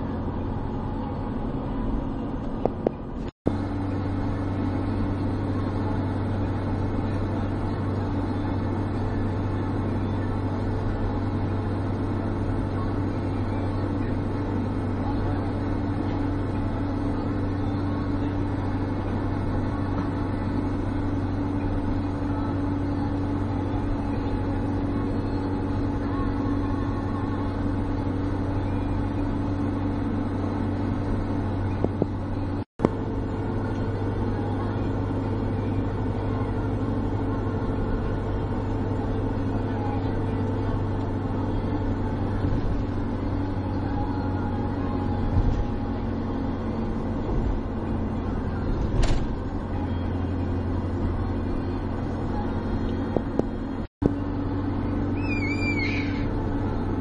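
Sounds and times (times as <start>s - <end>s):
car engine and tyres droning: 0.0s - 57.0s.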